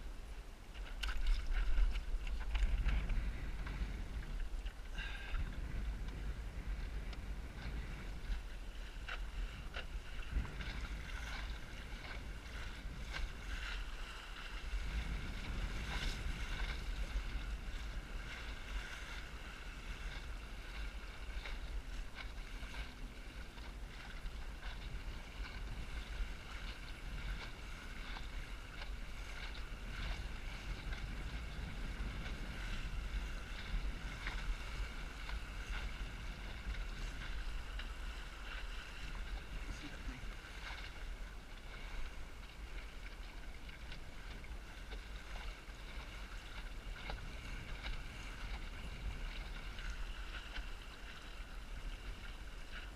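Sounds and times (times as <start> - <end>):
water rushing and splashing: 0.0 - 52.9
wind buffeting microphone: 1.0 - 52.9.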